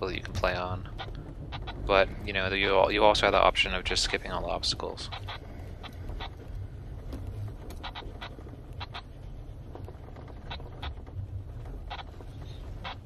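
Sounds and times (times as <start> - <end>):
engine and tyres rumbling: 0.0 - 13.0
sharp clicks or creaks: 0.0 - 13.0.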